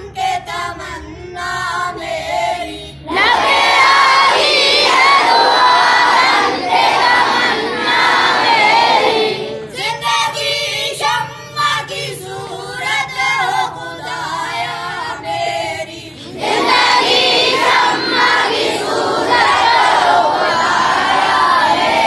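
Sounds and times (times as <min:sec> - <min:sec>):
group of boys singing response: 0:00.0 - 0:10.1, 0:11.6 - 0:22.0.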